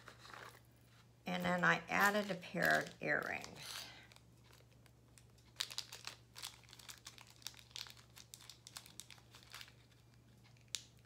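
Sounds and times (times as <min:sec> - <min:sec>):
packaging rustling: 0:00.0 - 0:00.7, 0:02.0 - 0:11.0
low steady hum: 0:00.0 - 0:11.0.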